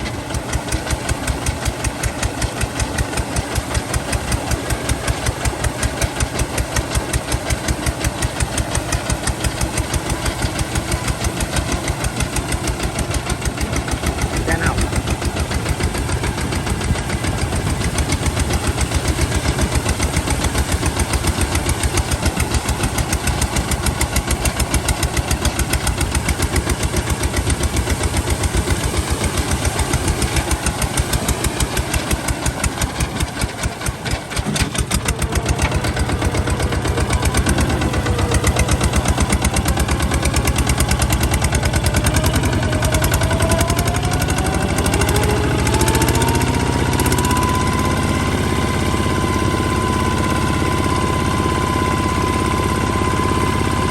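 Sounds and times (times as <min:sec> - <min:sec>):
diesel tractor engine running: 0:00.0 - 0:53.9.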